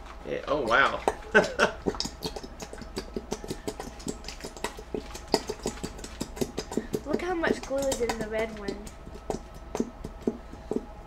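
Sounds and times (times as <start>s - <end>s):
spoon stirring sticky slime: 1.0s - 11.0s.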